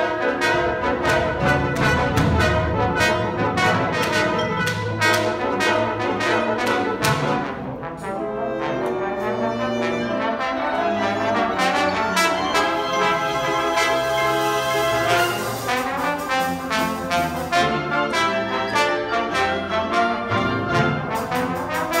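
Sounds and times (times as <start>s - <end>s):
solo trombone: 0.0s - 22.0s
wind band playing: 0.0s - 22.0s.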